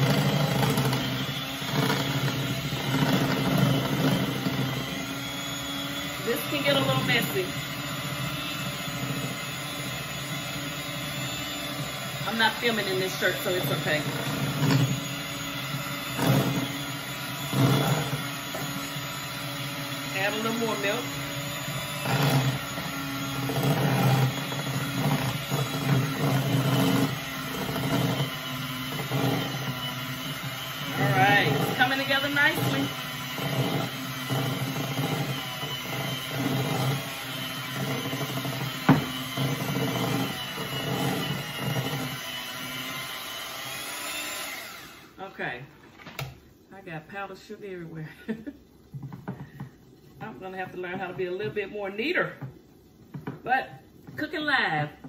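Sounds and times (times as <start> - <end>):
electric hand mixer running: 0.0 - 45.6.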